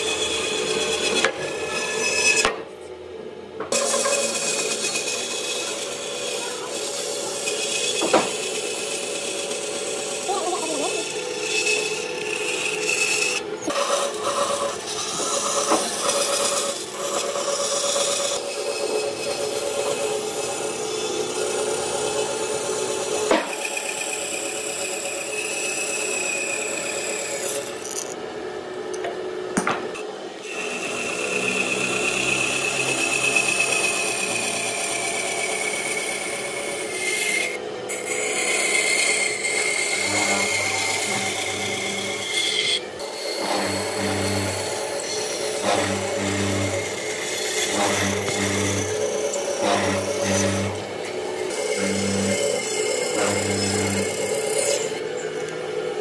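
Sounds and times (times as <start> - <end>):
power tool grinding wood: 3.7 - 28.2, 30.4 - 56.0.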